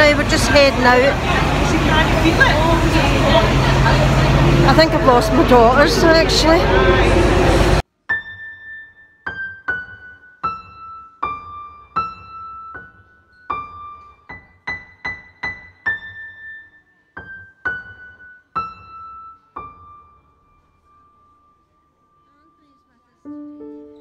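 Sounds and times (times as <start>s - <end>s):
gentle piano-like melody: 0.0s - 24.0s.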